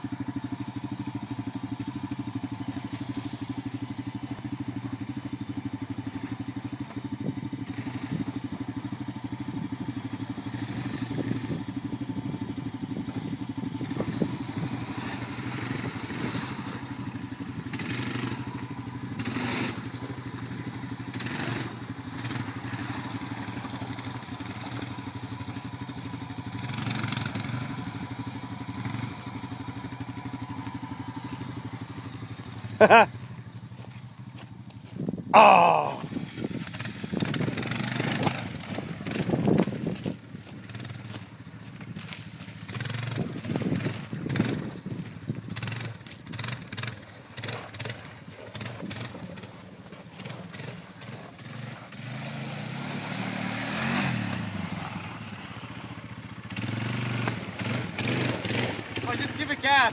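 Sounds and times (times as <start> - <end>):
atv engine running at low revs: 0.0 - 59.9.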